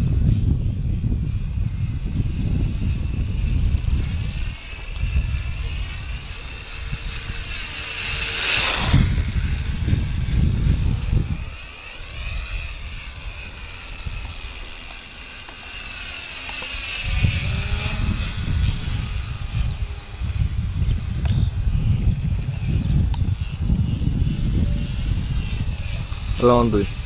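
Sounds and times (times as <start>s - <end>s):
model plane motor whining: 0.0s - 27.0s
wind rumble on microphone: 0.0s - 27.0s.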